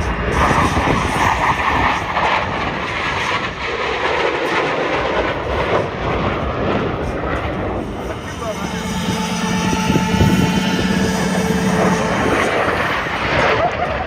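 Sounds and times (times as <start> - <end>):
jet passing overhead: 0.0 - 14.0.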